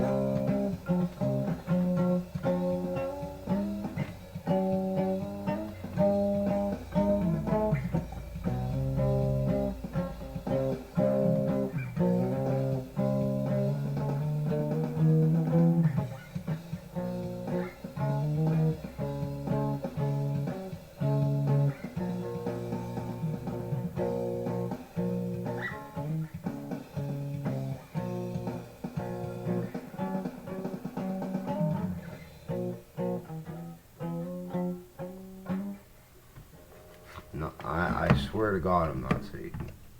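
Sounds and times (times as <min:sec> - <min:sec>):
guitar strummed chords: 0:00.0 - 0:35.8.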